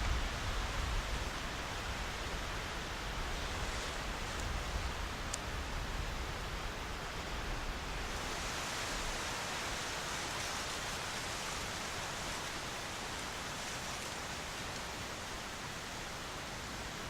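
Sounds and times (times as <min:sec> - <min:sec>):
wind hissing through trees: 0:00.0 - 0:17.0
wind rumble on microphone: 0:00.0 - 0:17.0.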